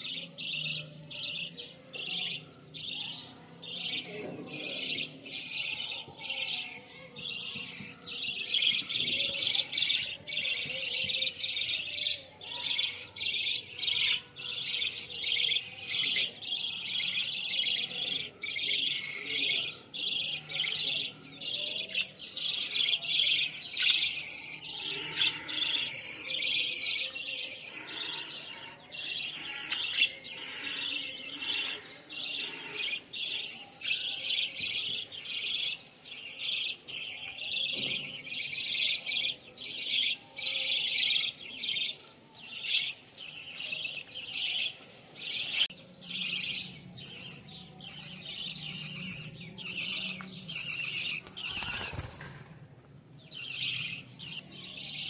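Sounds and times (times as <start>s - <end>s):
parrots chirping and chattering: 0.0s - 55.0s.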